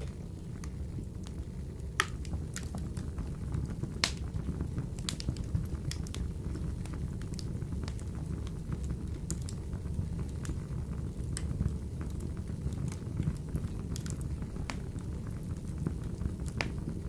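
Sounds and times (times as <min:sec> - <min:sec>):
fire crackling and popping: 0:00.0 - 0:17.0
wood fire burning in stove: 0:00.0 - 0:17.0.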